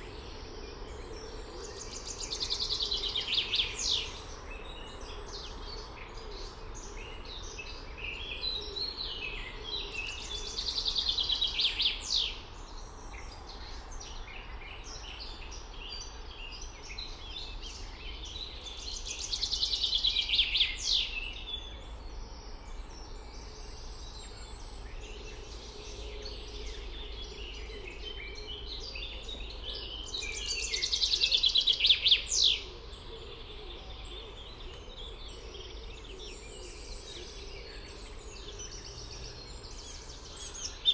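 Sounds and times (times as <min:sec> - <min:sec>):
bird song trill: 0:00.0 - 0:40.9
quiet bird chirps: 0:00.0 - 0:40.9.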